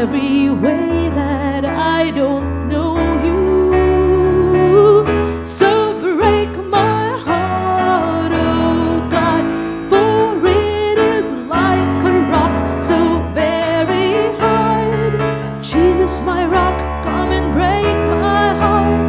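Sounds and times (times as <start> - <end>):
electronic keyboard: 0.0 - 19.0
woman singing: 0.0 - 19.0.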